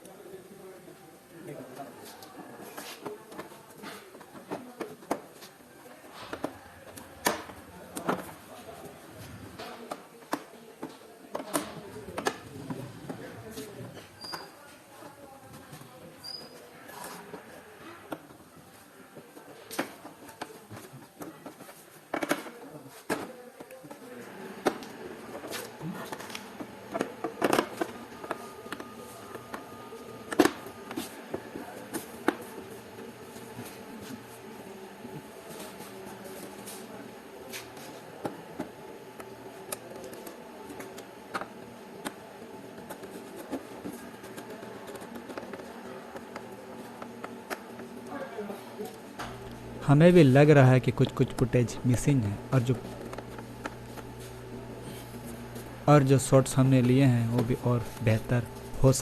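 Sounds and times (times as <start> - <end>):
workshop background noise: 0.0 - 59.0.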